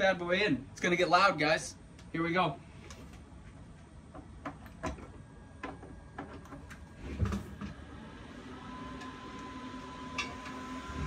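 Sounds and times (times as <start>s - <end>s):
machine whine and low hum: 0.0s - 11.0s.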